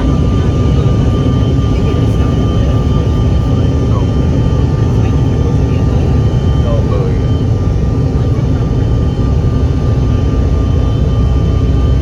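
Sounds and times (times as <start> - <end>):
airliner engine rumble: 0.0 - 12.0.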